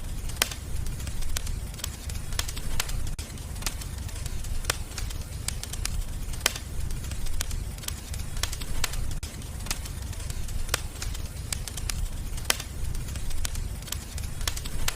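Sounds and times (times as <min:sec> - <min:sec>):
low rumble of burning fire: 0:00.0 - 0:14.9
wood fire crackling and popping: 0:00.0 - 0:14.9.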